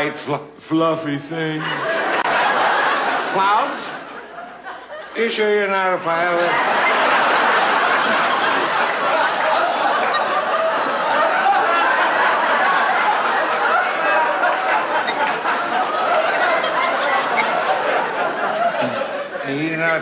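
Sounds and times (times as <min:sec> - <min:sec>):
studio audience laughing: 0:01.4 - 0:20.0.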